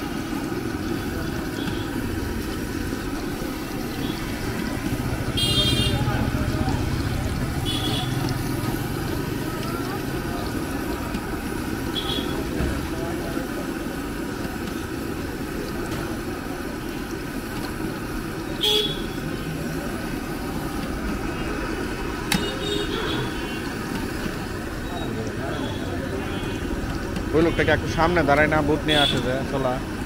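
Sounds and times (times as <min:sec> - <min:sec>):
oil bubbling in a wok: 0:00.0 - 0:30.0
passing traffic rumble: 0:00.0 - 0:30.0.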